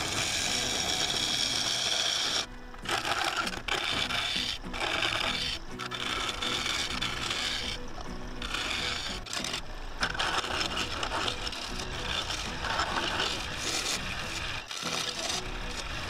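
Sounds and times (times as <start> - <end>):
lathe humming: 0.0 - 16.0
tool scraping wood on lathe: 0.0 - 16.0.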